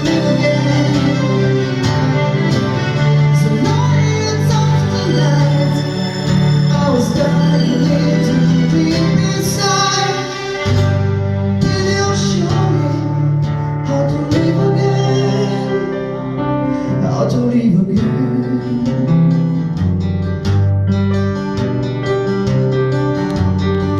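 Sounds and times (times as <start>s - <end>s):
person singing: 0.0s - 19.6s
bass line: 0.0s - 23.9s
plucked acoustic guitar: 0.0s - 23.9s.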